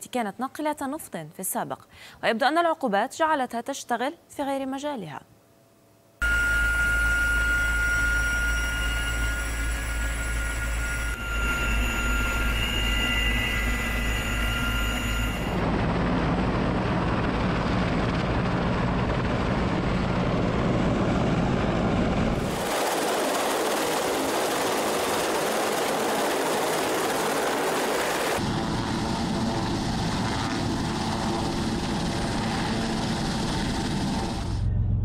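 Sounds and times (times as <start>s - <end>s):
helicopter engines and rotors: 6.2s - 35.0s.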